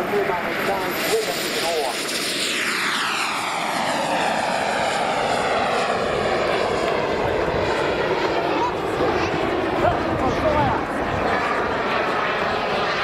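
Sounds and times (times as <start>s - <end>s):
model jet turbine engine roaring: 0.0s - 13.0s.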